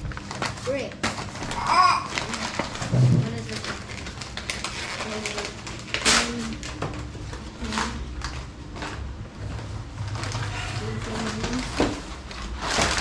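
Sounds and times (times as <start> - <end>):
wrapping paper rustling and tearing: 0.0 - 13.0.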